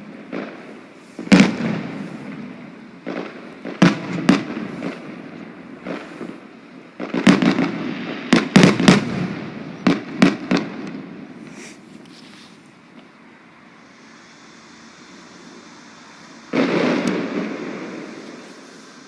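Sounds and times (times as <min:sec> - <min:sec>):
firework shells bursting: 0:00.0 - 0:13.2, 0:13.8 - 0:19.0
steady firework crackle: 0:00.0 - 0:19.0.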